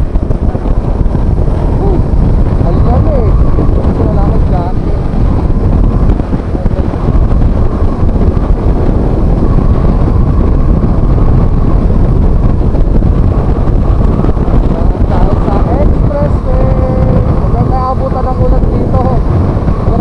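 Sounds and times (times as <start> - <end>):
loud wind rush on microphone: 0.0 - 20.0
motorcycle running: 0.0 - 20.0.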